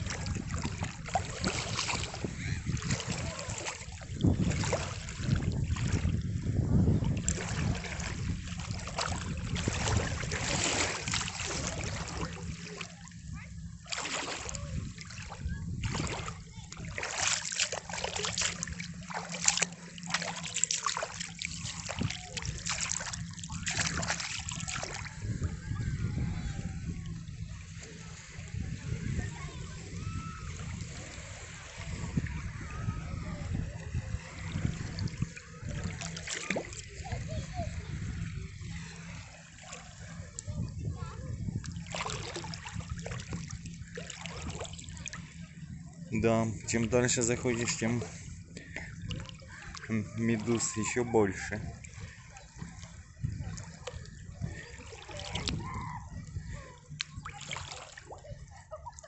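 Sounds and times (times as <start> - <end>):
faint voices: 0.0 - 59.0
shallow sea water splashing: 0.0 - 59.0.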